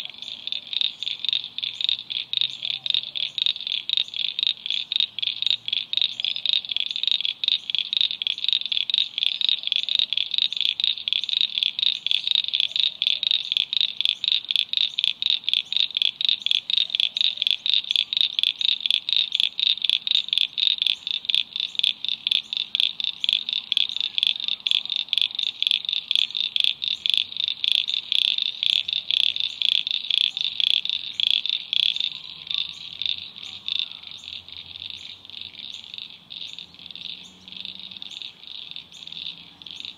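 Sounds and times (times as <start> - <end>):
frog calling: 0.0 - 39.9.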